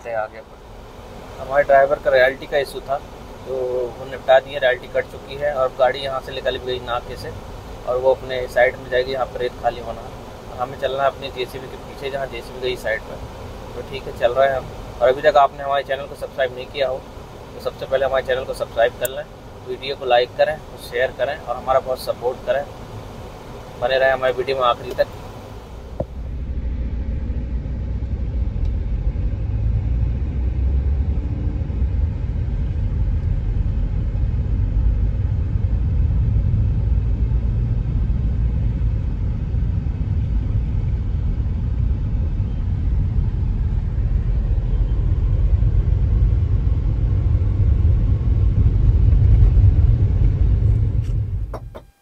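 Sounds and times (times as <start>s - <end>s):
vehicle driving rumble from cab: 0.0s - 52.0s.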